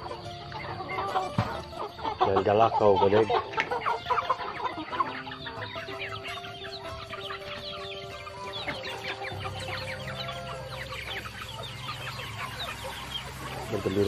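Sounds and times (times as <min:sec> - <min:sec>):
chickens clucking and peeping: 0:00.0 - 0:14.0.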